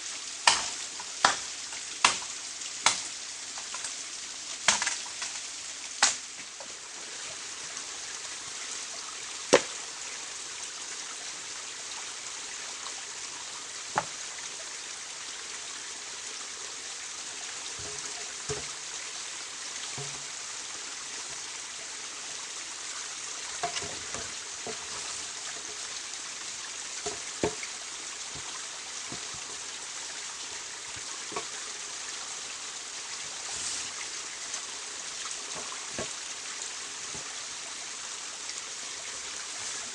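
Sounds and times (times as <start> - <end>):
running water hissing: 0.0 - 39.9.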